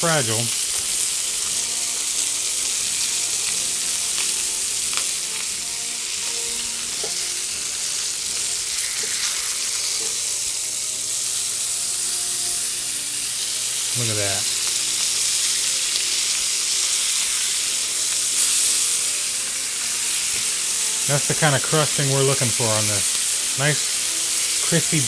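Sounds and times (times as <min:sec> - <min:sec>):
meat sizzling in a hot pan: 0:00.0 - 0:25.0.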